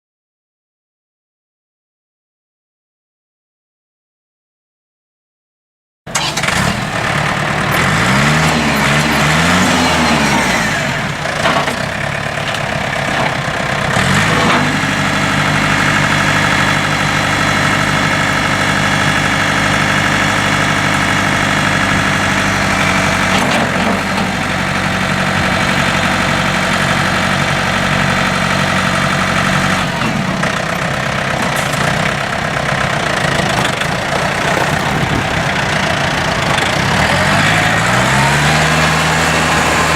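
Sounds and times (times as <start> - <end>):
tractor diesel engine revving: 6.1 - 39.9.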